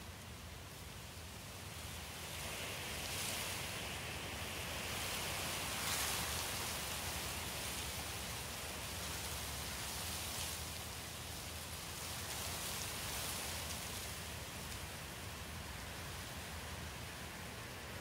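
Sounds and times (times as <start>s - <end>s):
trickling water hiss: 0.0s - 18.0s.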